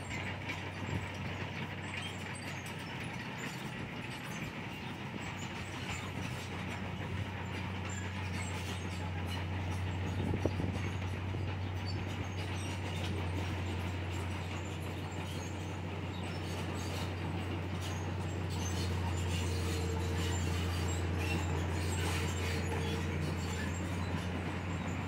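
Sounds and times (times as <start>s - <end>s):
bulldozer diesel engine running: 0.0s - 25.0s
clanks from steel tracks: 0.0s - 25.0s.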